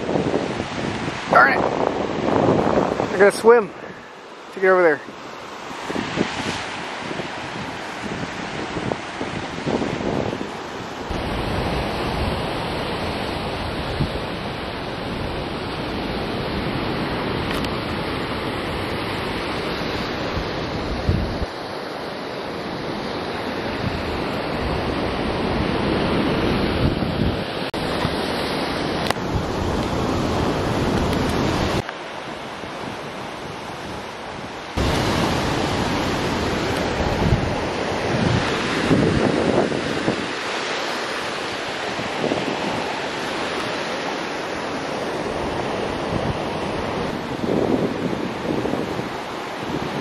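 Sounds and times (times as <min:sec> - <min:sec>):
surf breaking against rocks: 0:00.0 - 0:21.5, 0:27.7 - 0:50.0
wind buffeting microphone: 0:00.0 - 0:50.0.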